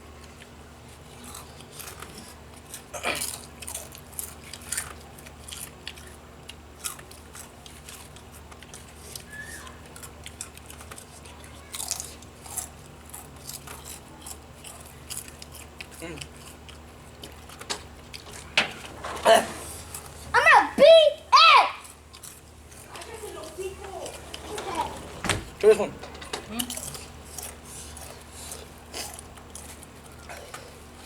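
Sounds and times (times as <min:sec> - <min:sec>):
crunchy snacks being chewed: 0:00.2 - 0:18.6, 0:21.8 - 0:24.4, 0:26.5 - 0:31.0.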